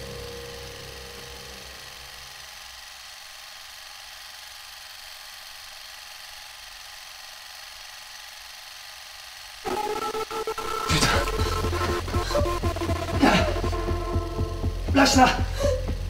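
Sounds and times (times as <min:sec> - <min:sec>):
film camera motor whirring: 0:00.0 - 0:16.0.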